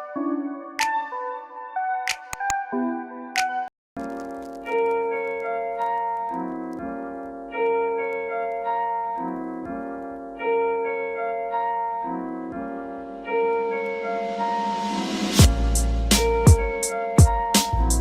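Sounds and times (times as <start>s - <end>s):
gentle keyboard chords: 0.0s - 14.8s, 15.4s - 18.0s.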